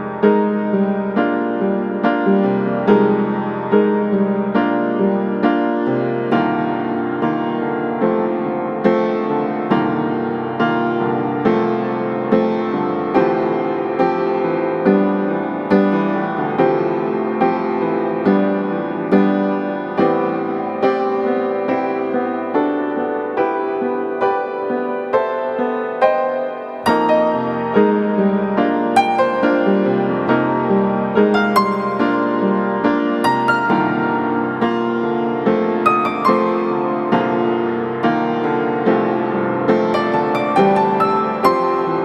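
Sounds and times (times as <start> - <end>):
slow gentle piano melody: 0.0 - 42.0.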